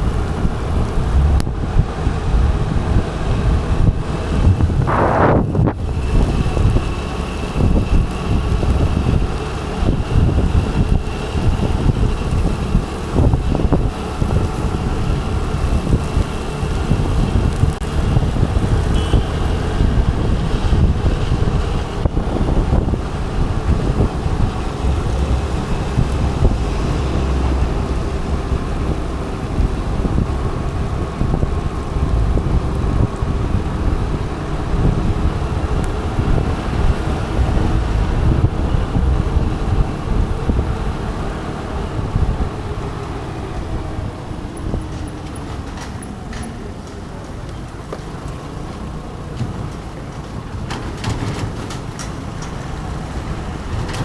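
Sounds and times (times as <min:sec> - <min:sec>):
scooter engine running: 0:00.0 - 0:44.4
wind rushing over microphone: 0:00.0 - 0:47.2
road traffic: 0:00.0 - 0:54.0.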